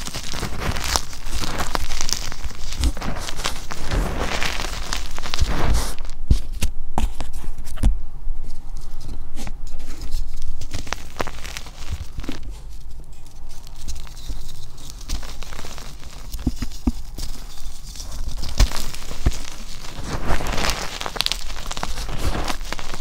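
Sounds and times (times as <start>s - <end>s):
chalk powder crunching: 0.0s - 6.6s, 9.8s - 23.0s.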